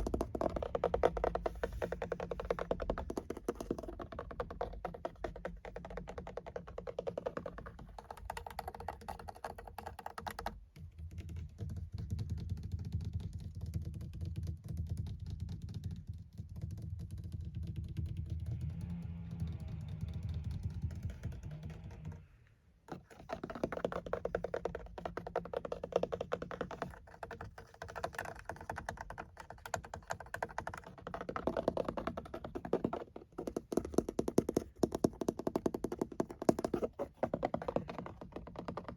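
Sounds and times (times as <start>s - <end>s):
fingernails tapping on a car: 0.0s - 22.3s, 22.9s - 38.9s.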